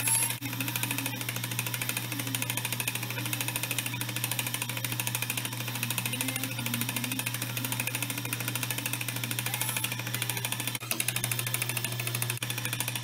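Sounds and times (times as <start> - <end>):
motor hum: 0.0 - 13.0
rapid mechanical ticking: 0.0 - 13.0.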